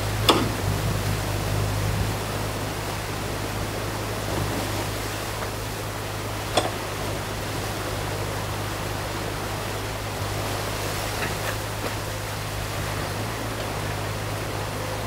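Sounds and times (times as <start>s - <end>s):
excavator engine hum: 0.0s - 15.0s
water rushing: 0.0s - 15.0s.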